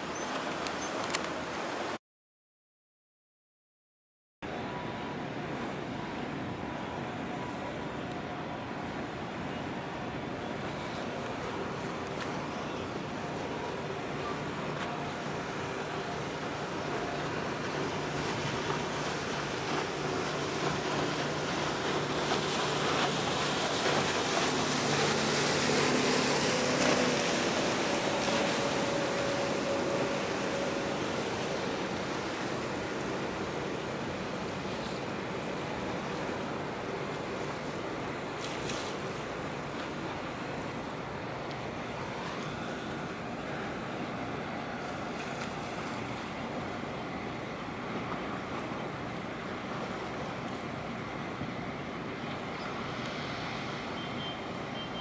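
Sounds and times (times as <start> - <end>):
rush of water: 0.0 - 2.0, 4.5 - 55.0
wind: 0.0 - 2.0, 4.4 - 55.0
faint low engine hum: 4.5 - 55.0.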